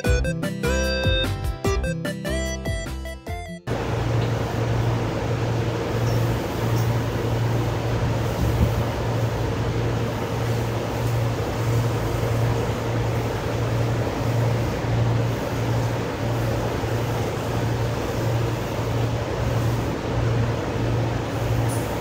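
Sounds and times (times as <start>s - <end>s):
low pulsing machine hum: 3.7s - 22.0s.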